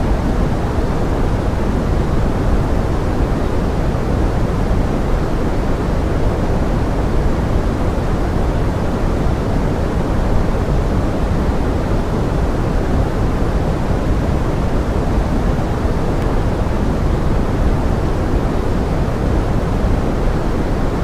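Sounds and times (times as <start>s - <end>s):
pink noise hiss: 0.0s - 21.0s.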